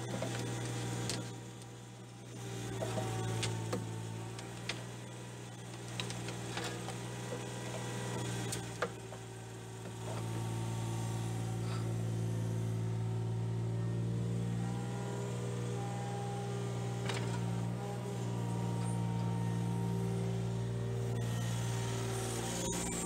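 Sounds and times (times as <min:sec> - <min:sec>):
hydraulic rotor of bucket separator: 0:00.0 - 0:23.0
diesel engine running: 0:02.4 - 0:23.0.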